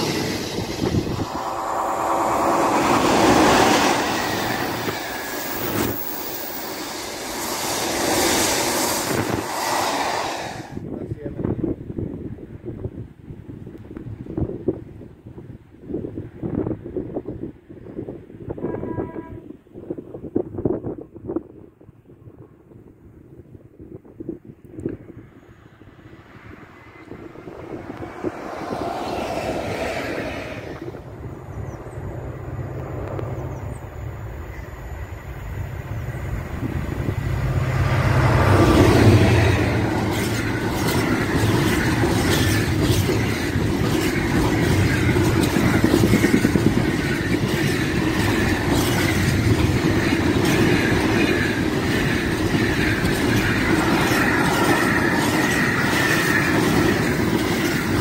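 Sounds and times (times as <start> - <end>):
freight train rumbling past: 0.0 - 22.5, 24.8 - 58.0.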